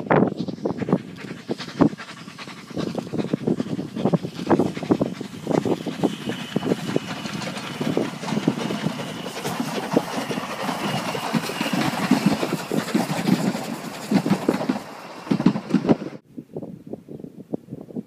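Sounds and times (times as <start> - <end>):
steam train passing: 0.0 - 16.2
wind buffeting microphone: 0.0 - 18.0.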